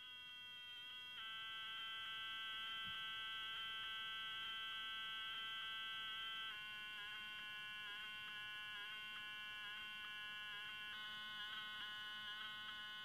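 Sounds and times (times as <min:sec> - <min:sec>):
telephone off-hook howler tone: 0:00.0 - 0:13.0.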